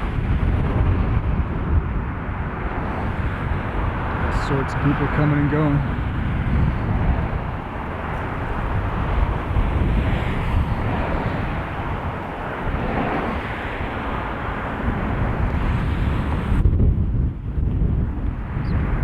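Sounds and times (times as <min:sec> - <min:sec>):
passing road traffic: 0:00.0 - 0:19.0
wind rumbling on microphone: 0:00.0 - 0:19.0.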